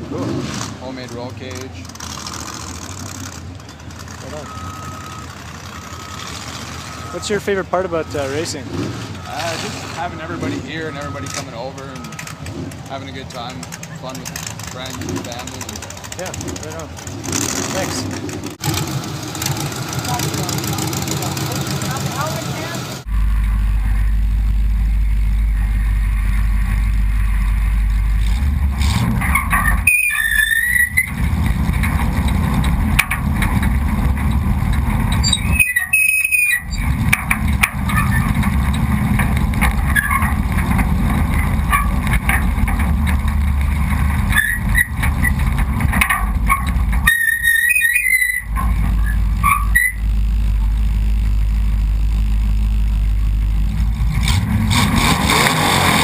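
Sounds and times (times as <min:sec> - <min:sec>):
truck engines rumbling: 0:00.0 - 0:56.0
high squeals: 0:02.4 - 0:15.9, 0:19.8 - 0:56.0.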